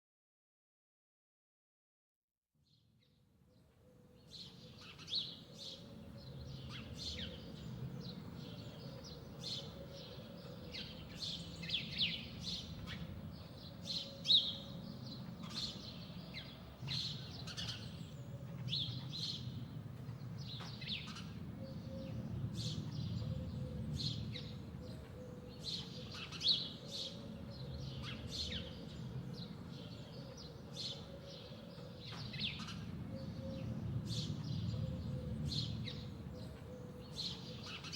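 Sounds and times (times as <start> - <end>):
songbirds chirping: 2.7 - 37.9.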